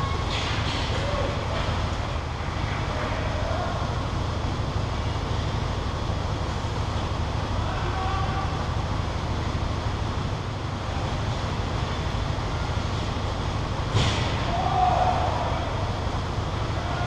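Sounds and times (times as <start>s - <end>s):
ice rink rumble and hiss: 0.0s - 17.0s.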